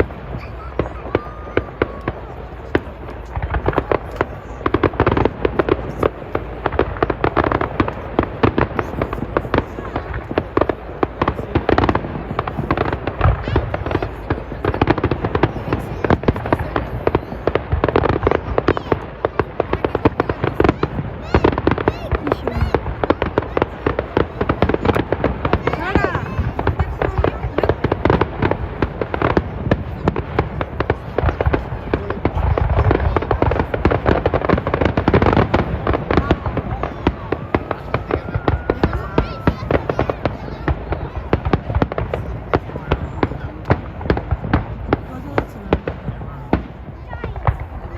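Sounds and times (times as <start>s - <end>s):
deep firework boom: 0.0s - 47.9s
fireworks bangs and crackles: 0.0s - 47.9s.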